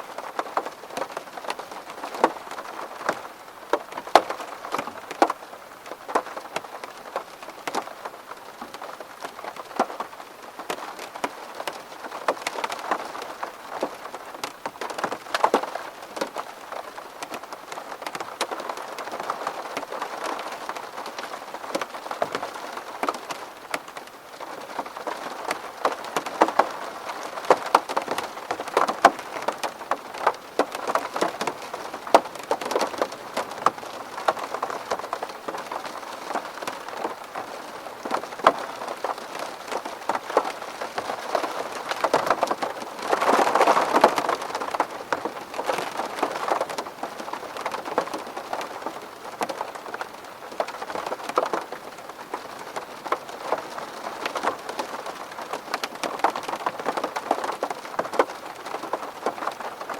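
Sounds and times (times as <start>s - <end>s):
rain drops ticking on window glass: 0.0s - 59.9s.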